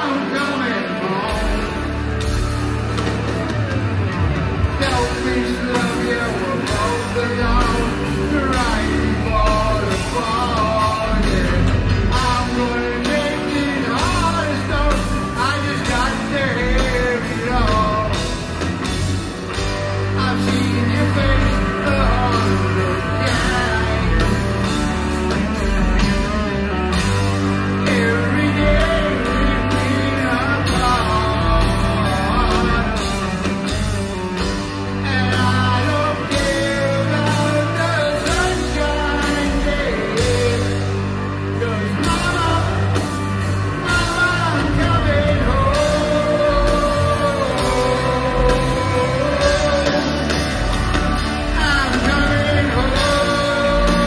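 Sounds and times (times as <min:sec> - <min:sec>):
man singing: 0:00.0 - 0:02.2, 0:04.7 - 0:19.0, 0:19.9 - 0:54.0
heavy rock band playing: 0:00.0 - 0:54.0.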